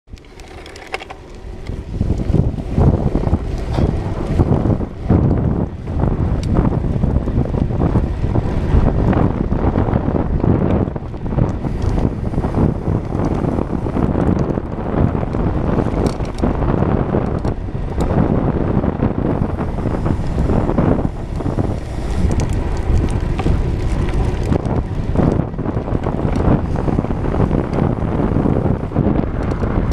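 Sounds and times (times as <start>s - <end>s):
wind buffeting microphone: 0.1s - 29.9s.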